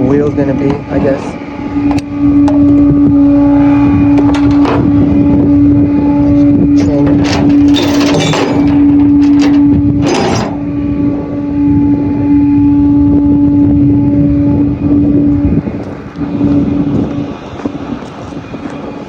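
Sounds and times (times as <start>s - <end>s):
tow truck engine droning hum: 1.3s - 19.0s.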